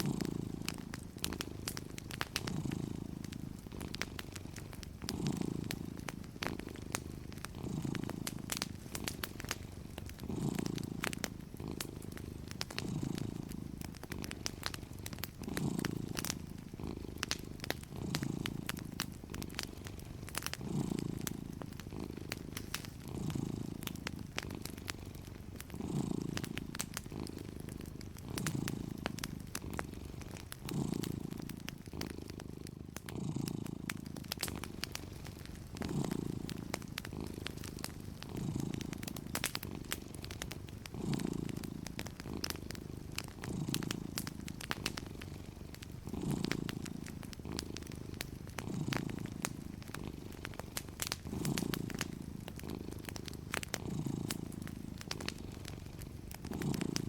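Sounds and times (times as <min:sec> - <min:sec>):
cat purring: 0:00.0 - 0:57.0
wood fire crackling: 0:00.0 - 0:57.0.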